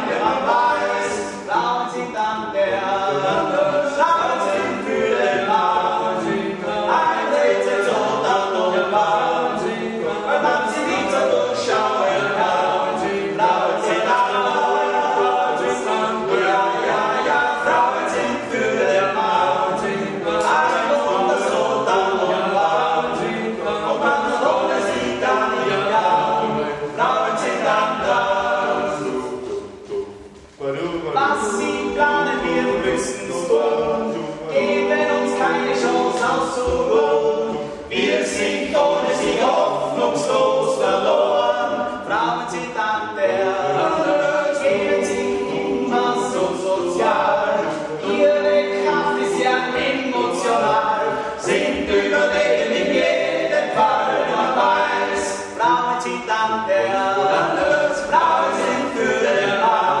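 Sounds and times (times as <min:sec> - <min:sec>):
male choir singing a cappella: 0:00.0 - 1:00.0.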